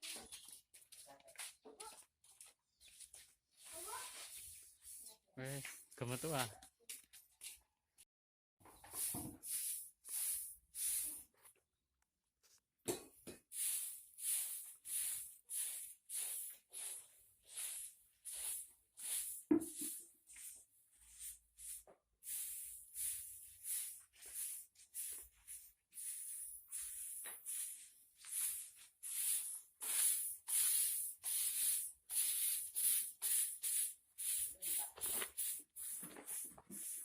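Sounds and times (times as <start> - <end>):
broom sweeping strokes: 2.4 - 6.2, 8.9 - 11.5, 13.5 - 37.0.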